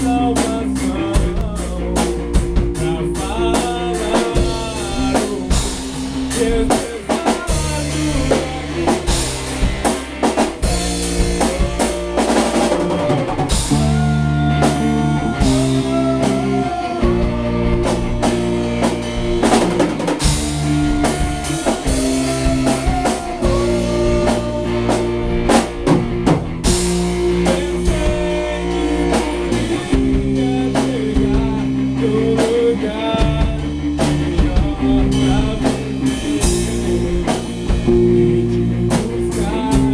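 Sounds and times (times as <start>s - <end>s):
bass guitar: 0.0s - 39.9s
drum kit beat: 0.0s - 39.9s
electric guitar melody: 0.0s - 39.9s.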